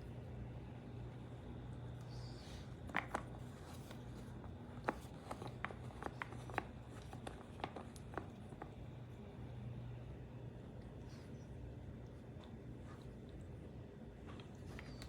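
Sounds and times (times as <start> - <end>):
humidifier humming: 0.0 - 15.0.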